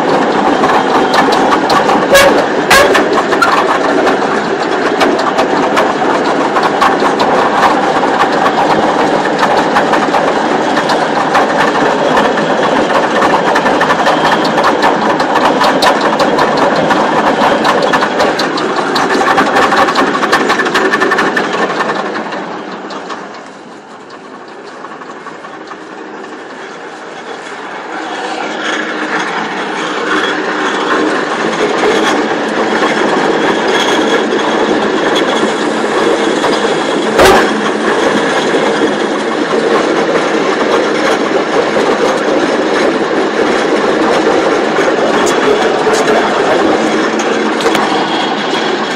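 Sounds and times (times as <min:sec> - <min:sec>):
combine harvester running: 0:00.0 - 0:48.9.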